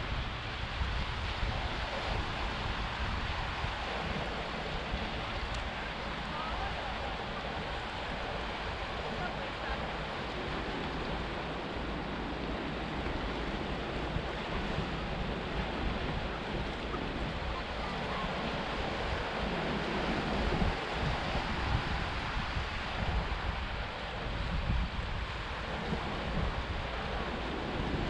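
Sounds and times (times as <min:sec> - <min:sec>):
sea waves surging into a cave: 0:00.0 - 0:28.0.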